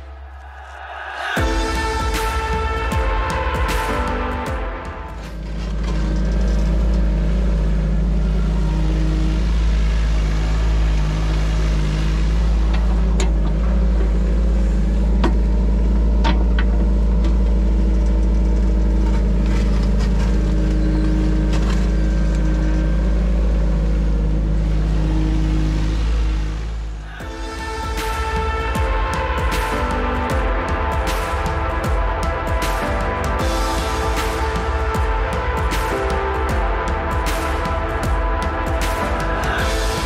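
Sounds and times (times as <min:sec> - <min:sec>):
diesel engine rumbling: 0:00.0 - 0:40.0.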